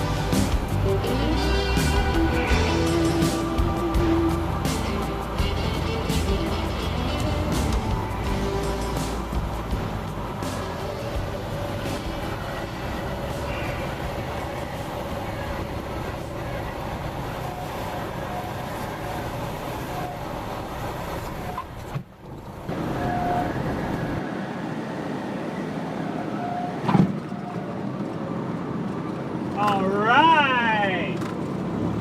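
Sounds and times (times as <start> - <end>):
plane engine and propeller running: 0.0 - 26.6.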